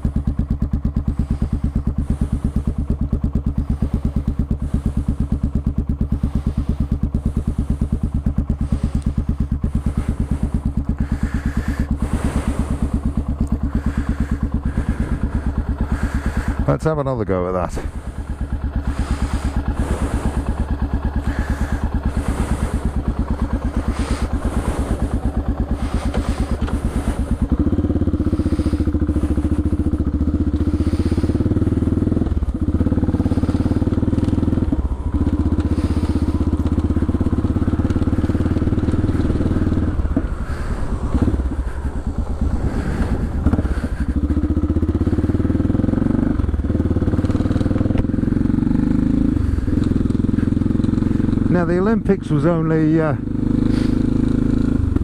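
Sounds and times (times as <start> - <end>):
single-cylinder motorcycle engine: 0.0 - 55.0.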